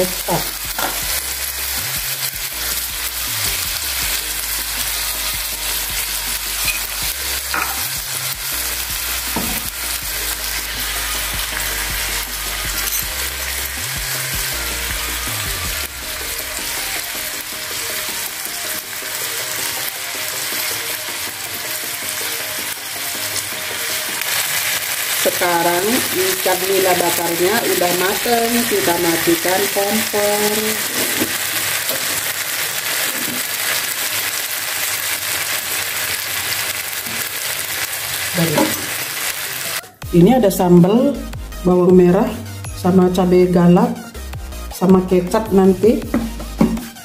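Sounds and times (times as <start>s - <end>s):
fish sizzling in a grill pan: 0.0s - 40.0s.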